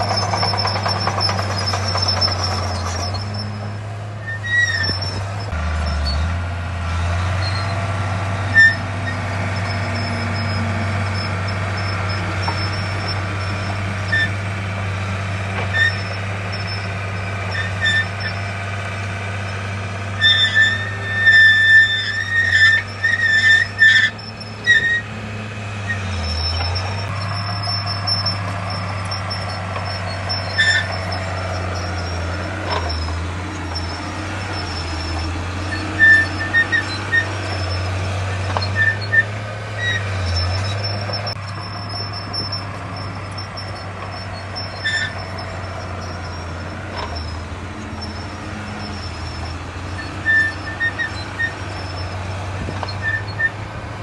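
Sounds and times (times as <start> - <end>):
high-pitched squeaks: 0.0 - 6.3, 8.4 - 14.5, 15.5 - 18.6, 20.2 - 53.6
heavy diesel machinery droning: 0.0 - 54.0.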